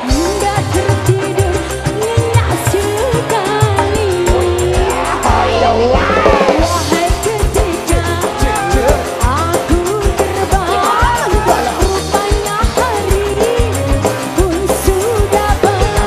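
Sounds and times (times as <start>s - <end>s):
fast drum beat: 0.0s - 16.0s.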